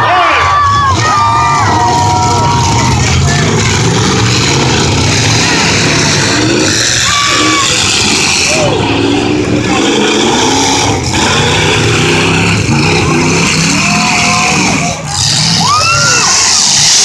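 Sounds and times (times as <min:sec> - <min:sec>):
crowd shouting: 0:00.0 - 0:17.0
truck engines revving: 0:00.0 - 0:17.0.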